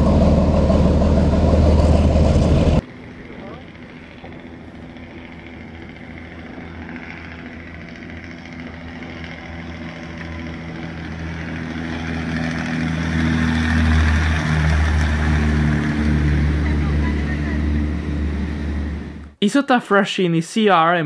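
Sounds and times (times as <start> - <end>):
boat engines running at speed: 0.0 - 19.4.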